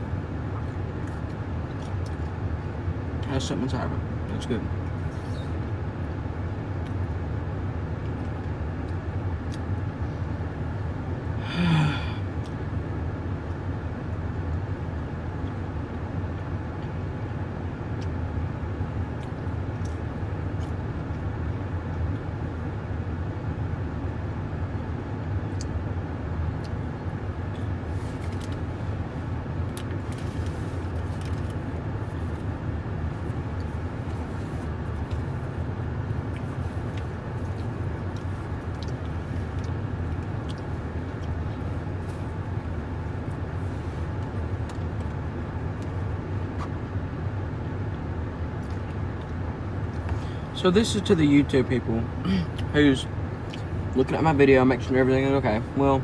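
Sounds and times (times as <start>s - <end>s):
car engine rumbling: 0.0s - 56.0s.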